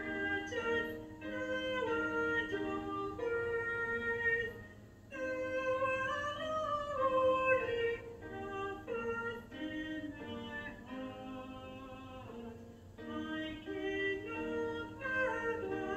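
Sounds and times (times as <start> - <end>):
hymn singing with accompaniment: 0.0 - 15.9.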